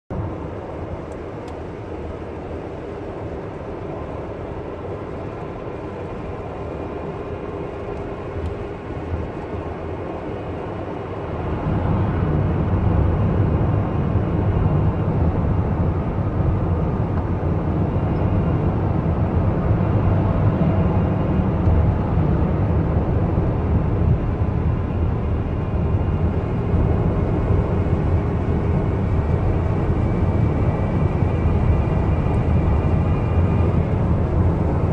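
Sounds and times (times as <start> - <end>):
strange engine noise: 0.1 - 34.9
car engine running and revving: 0.2 - 34.9.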